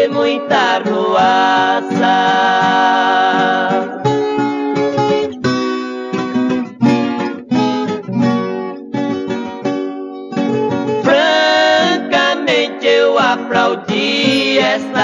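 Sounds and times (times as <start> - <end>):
plucked acoustic strings melody: 0.0 - 15.0.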